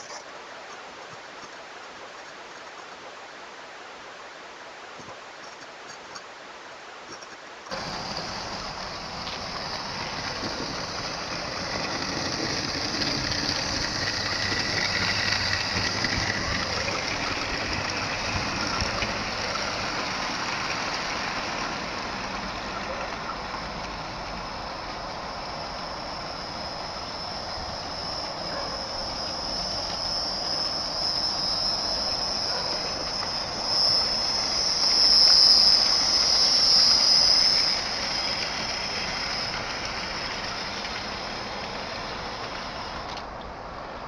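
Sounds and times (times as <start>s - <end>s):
model train motor whine: 7.7s - 43.3s
model train wheel rumble: 7.7s - 43.3s.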